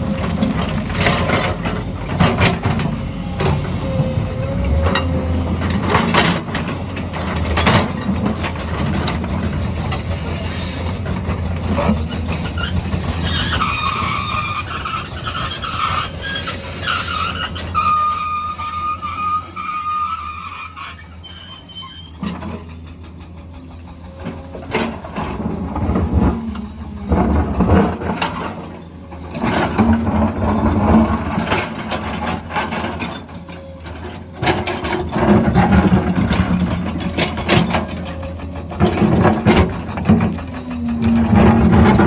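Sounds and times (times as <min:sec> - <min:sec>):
diesel engine running: 0:00.0 - 0:17.7, 0:22.1 - 0:42.0.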